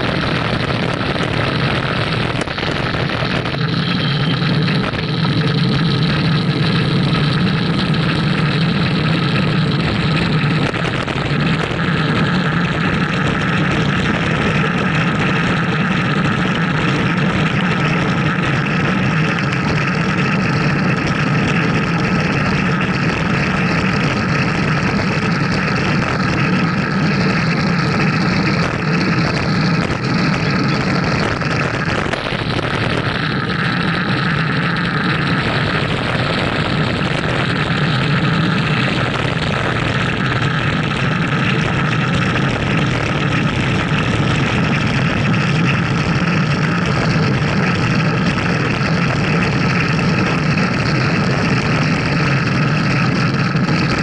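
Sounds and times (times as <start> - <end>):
road noise: 0.0 - 54.0
wind rush: 0.0 - 54.0.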